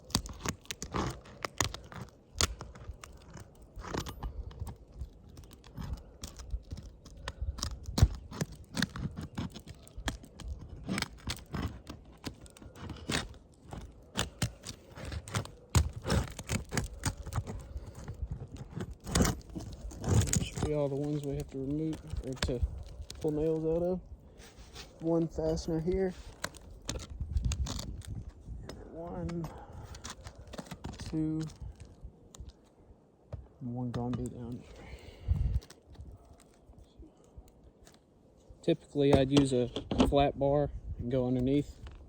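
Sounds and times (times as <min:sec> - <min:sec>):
roof shingles tearing and crunching: 0:00.0 - 0:32.8, 0:34.0 - 0:38.1.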